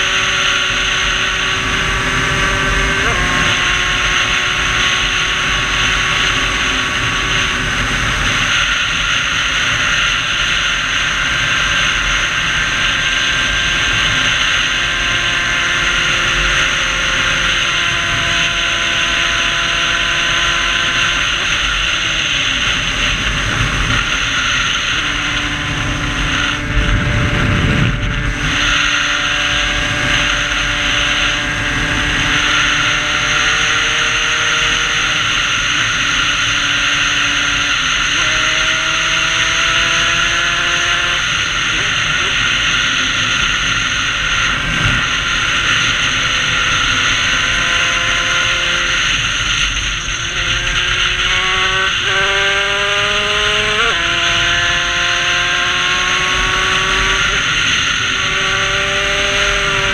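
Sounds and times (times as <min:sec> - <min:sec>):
dirt bike engine at high revs: 0:00.0 - 0:59.9
wind rushing over microphone: 0:00.0 - 0:59.9.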